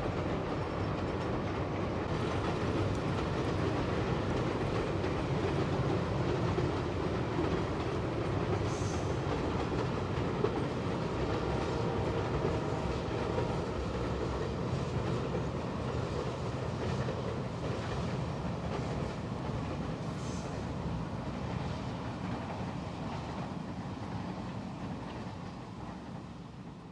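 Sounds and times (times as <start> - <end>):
train rumbling: 0.0 - 26.9.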